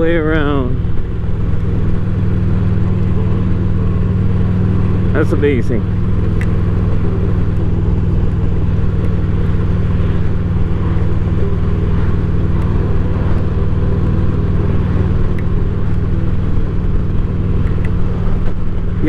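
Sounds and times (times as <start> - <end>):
motorcycle engine cruising: 0.0 - 19.0
wind and road noise: 0.0 - 19.0.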